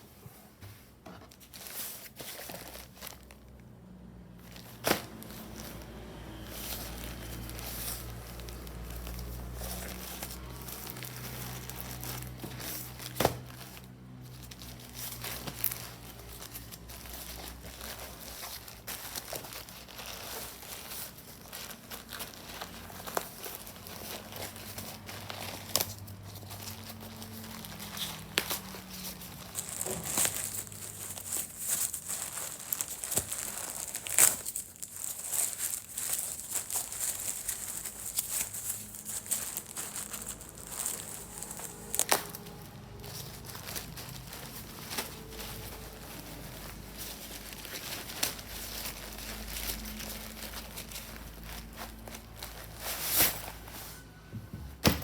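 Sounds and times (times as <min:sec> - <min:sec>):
plastic packaging crinkling: 0:01.3 - 0:55.0.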